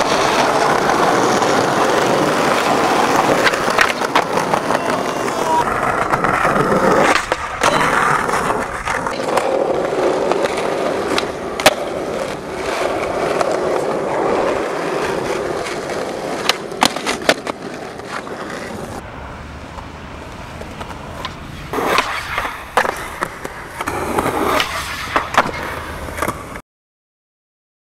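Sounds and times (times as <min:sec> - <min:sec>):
skateboard striking ground: 0:00.0 - 0:26.6
skateboard wheels rolling on concrete: 0:00.0 - 0:26.6.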